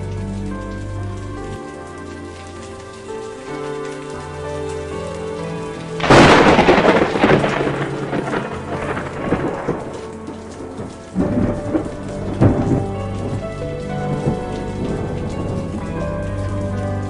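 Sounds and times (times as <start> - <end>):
soft sustained music: 0.0 - 17.0
steady rain: 0.0 - 17.0
thunderclap rumbling: 2.2 - 17.0.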